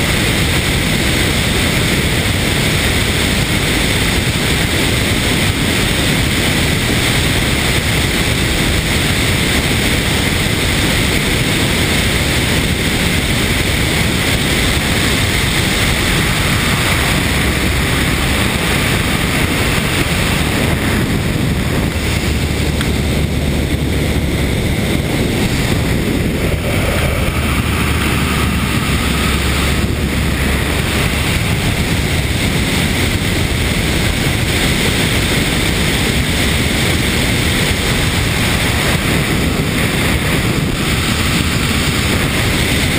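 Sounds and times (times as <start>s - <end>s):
propeller engine drone: 0.0s - 42.9s
airflow rushing over camera: 0.1s - 42.9s.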